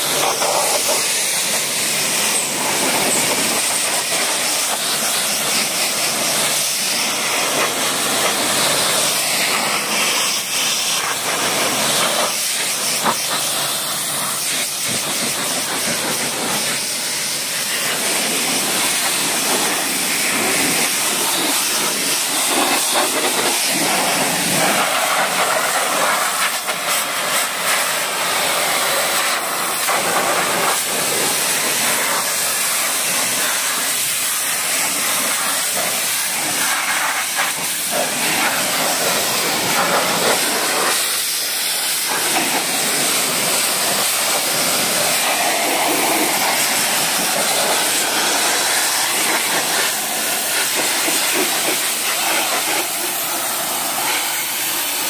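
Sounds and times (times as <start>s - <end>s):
pressure washer spraying car: 0.0s - 55.0s.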